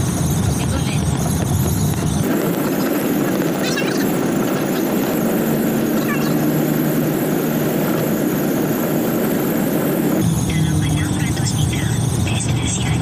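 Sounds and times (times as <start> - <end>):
truck engine and tyre drone: 0.0 - 13.0.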